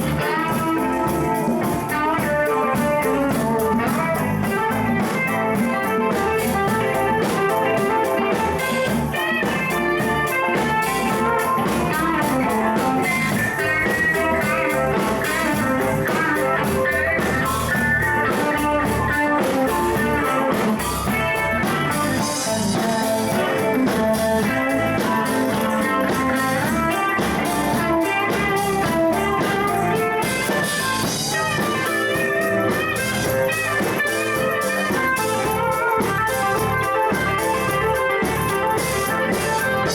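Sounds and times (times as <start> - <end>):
bending guitar notes: 0.0 - 39.9
live blues band: 0.0 - 39.9.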